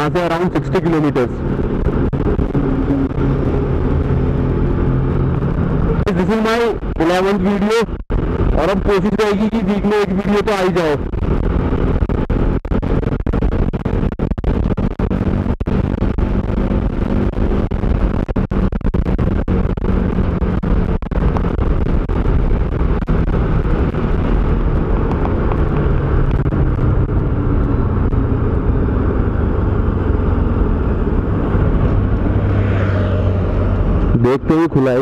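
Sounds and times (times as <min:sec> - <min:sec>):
motorcycle engine running: 0:00.0 - 0:34.5
wind rushing over microphone: 0:00.0 - 0:35.0.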